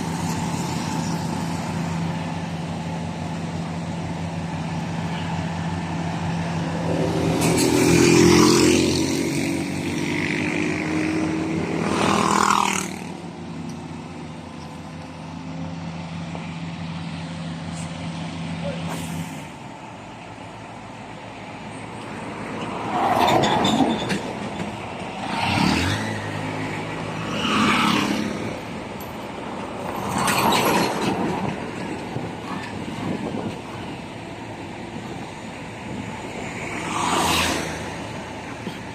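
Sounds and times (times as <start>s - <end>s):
heavy vehicle engines running: 0.0s - 38.9s.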